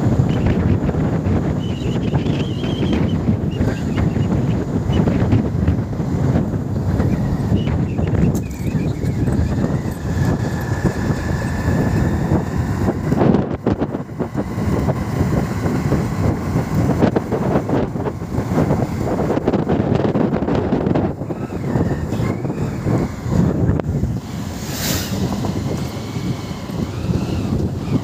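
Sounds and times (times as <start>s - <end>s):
moving vehicle rumble: 0.0s - 28.0s
wind buffeting microphone: 0.0s - 28.0s.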